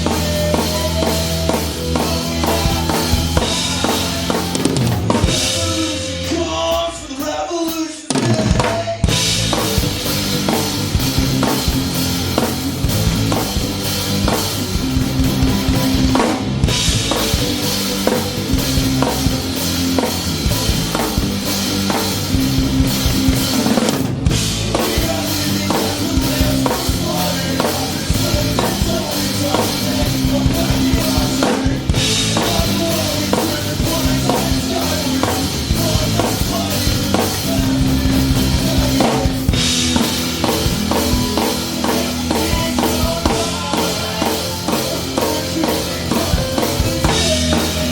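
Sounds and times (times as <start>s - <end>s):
drum kit beat: 0.0s - 47.9s
rock band playing live: 0.0s - 47.9s.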